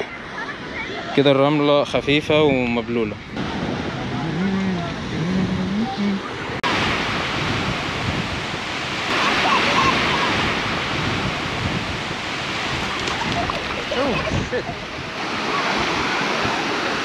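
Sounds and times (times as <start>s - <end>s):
surf washing onto sand: 1.1s - 17.0s
wind buffeting microphone: 1.8s - 17.0s.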